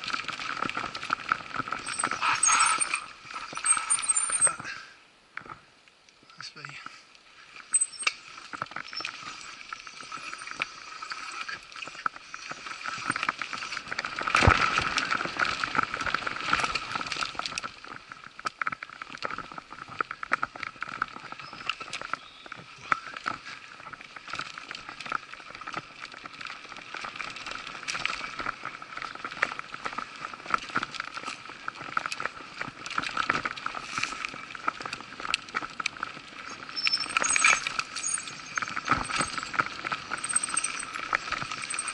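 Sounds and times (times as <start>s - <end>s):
mountain bike rattling and clicking: 0.0s - 4.8s, 7.6s - 41.9s.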